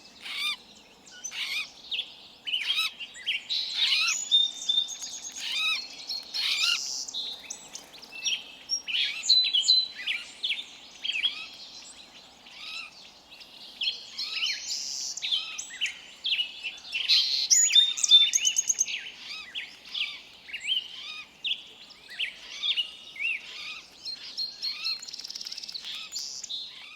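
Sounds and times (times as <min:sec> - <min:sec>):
songbirds chirping and whistling: 0:00.0 - 0:26.9.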